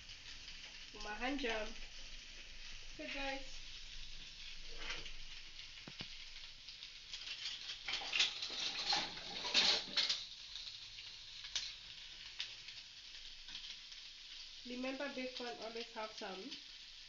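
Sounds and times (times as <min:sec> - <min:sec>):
bacon sizzling in a frying pan: 0:00.0 - 0:17.0.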